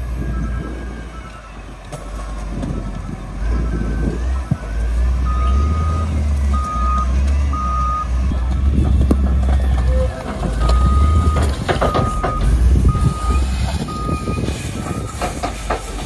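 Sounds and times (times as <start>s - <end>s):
diesel engine under load: 0.0s - 16.0s
reversing alarm beeps: 0.2s - 1.4s, 3.0s - 10.0s, 10.6s - 15.5s.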